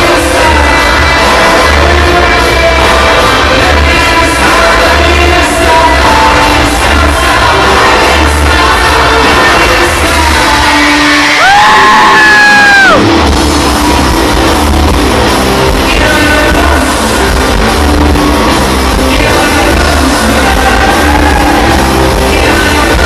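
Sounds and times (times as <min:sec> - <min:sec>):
sung vocals: 0:00.0 - 0:13.0, 0:15.6 - 0:23.0
live rock band: 0:00.0 - 0:23.0.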